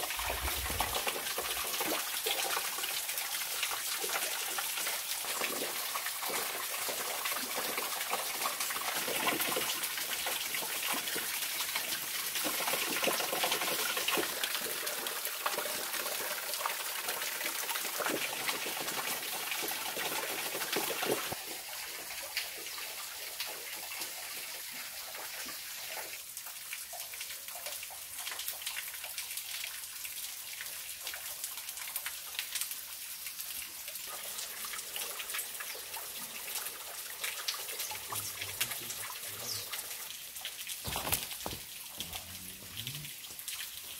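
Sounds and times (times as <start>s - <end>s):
waterfall splashing onto rocks: 0.0s - 21.6s, 26.0s - 43.9s
water drips: 0.0s - 43.9s.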